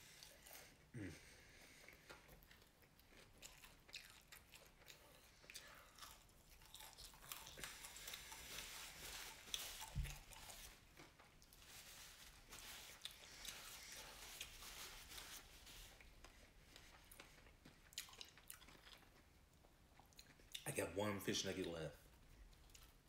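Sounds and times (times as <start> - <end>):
close-up chewing: 0.0 - 20.7, 22.0 - 23.0.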